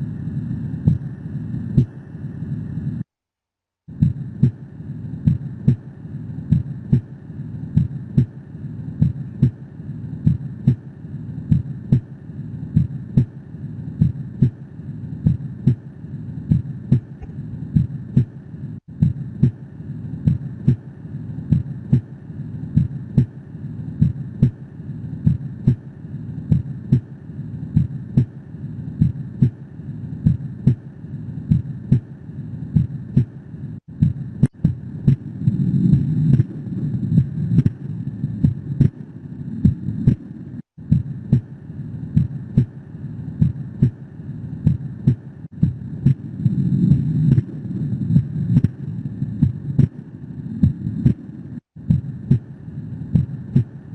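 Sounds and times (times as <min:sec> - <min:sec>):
heartbeat through stethoscope: 0:00.0 - 0:03.0, 0:03.9 - 0:53.9.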